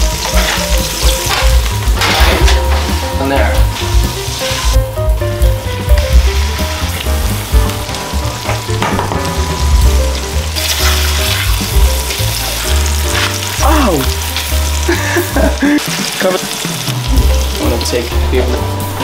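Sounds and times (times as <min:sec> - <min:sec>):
bass-heavy music: 0:00.0 - 0:19.0
chicken sizzling in hot oil: 0:00.0 - 0:19.0.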